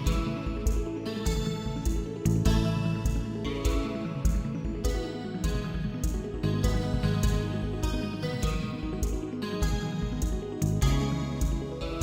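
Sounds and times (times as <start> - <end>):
gentle guitar instrumental music: 0.0 - 12.0.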